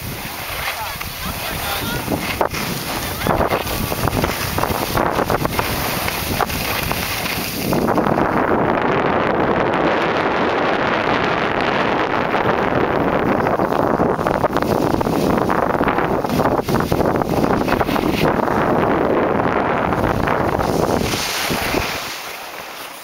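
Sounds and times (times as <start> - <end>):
skis scraping over snow: 0.0 - 23.0
wind rushing on microphone: 0.0 - 23.0.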